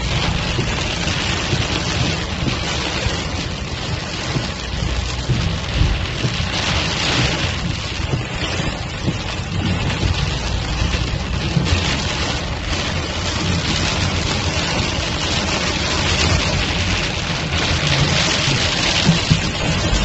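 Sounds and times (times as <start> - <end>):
heavy rain on car roof: 0.0 - 20.0.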